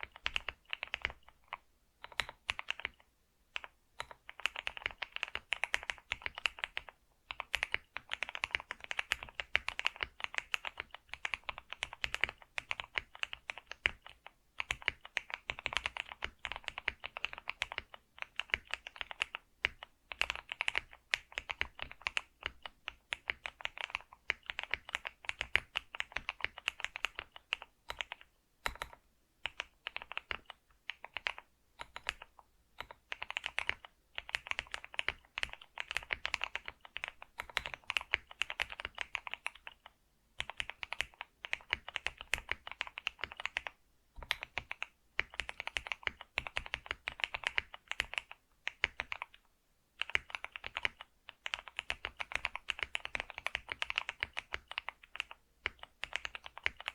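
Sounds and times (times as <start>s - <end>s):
keyboard typing: 0.0s - 56.9s.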